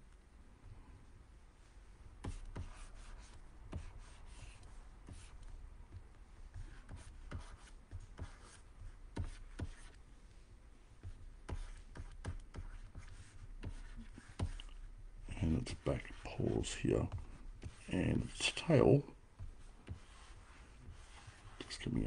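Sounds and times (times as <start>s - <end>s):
stylus scratching on tablet: 2.2s - 10.0s, 11.0s - 22.0s.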